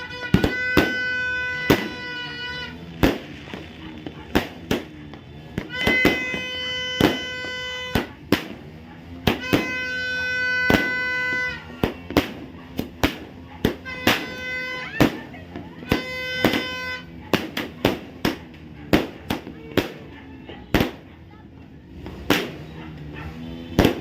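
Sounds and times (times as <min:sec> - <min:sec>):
firecrackers bursting: 0:00.0 - 0:24.0.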